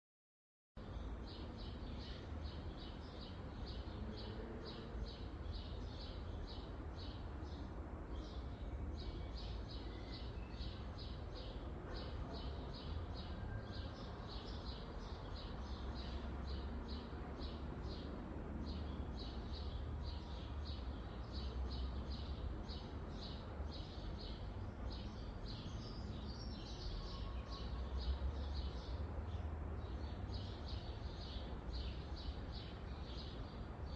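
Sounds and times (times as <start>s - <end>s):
bird chirping: 0.8s - 33.9s
low rumble of wind or traffic: 0.8s - 33.9s.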